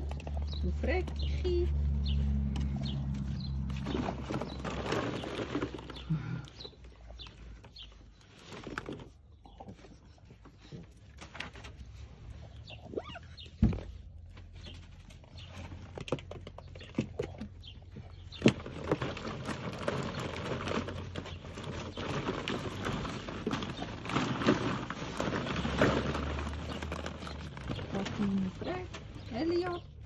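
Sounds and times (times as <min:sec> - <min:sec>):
plastic balls clattering: 0:02.8 - 0:14.0, 0:14.6 - 0:29.8.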